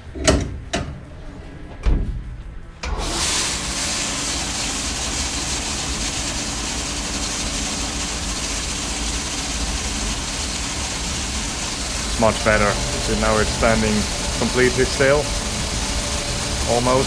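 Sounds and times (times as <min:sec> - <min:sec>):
low motor hum: 0:00.0 - 0:17.0
parts washer spray hissing: 0:03.0 - 0:17.0.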